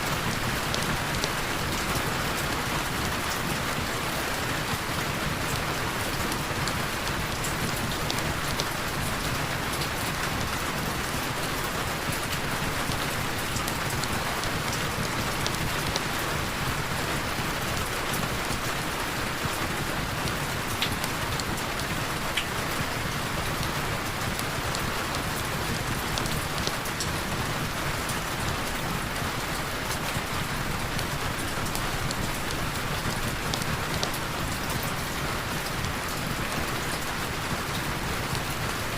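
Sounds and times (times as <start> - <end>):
heavy rain falling: 0.0 - 38.9
rain drop ticks: 0.1 - 4.0, 4.6 - 38.9.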